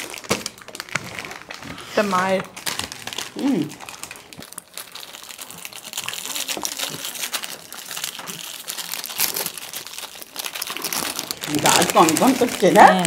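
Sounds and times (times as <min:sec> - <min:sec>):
plastic wrappers crinkling: 0:00.0 - 0:13.0.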